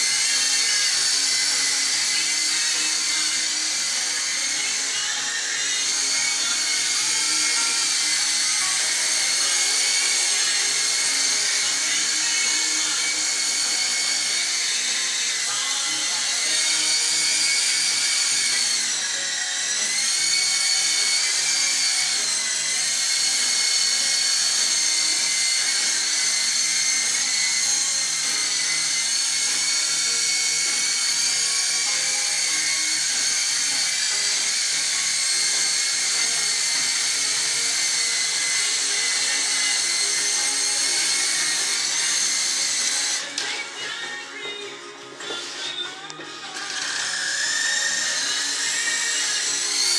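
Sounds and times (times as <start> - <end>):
toy helicopter rotors whining: 0.0 - 49.9.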